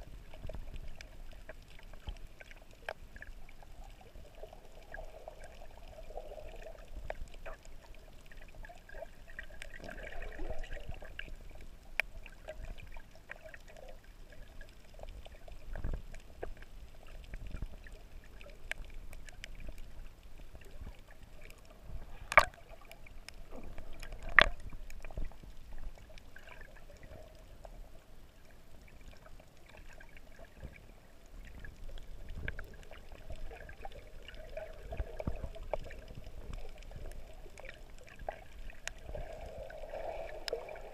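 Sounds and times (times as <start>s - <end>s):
water moving underwater: 0.0s - 40.9s.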